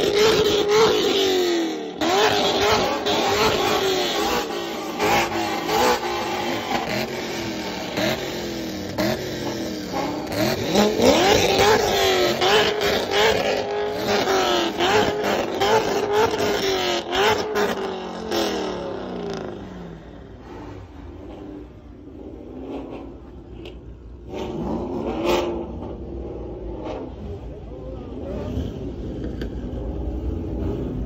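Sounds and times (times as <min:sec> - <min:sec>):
sports car engine revving: 0:00.0 - 0:31.0.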